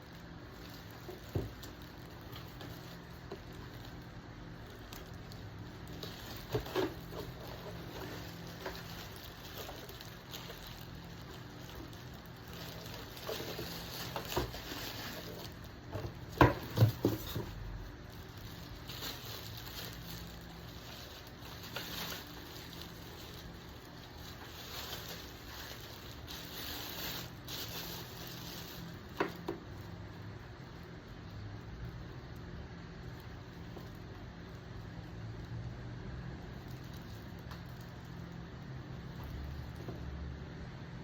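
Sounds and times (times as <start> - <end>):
humidifier humming: 0.0 - 41.0.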